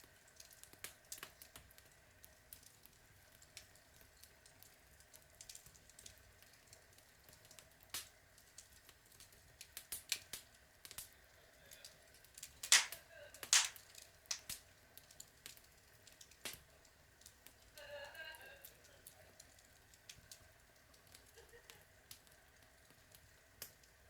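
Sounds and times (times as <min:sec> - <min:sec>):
faint fire hiss: 0:00.0 - 0:24.0
log fire crackling and popping: 0:00.0 - 0:24.0.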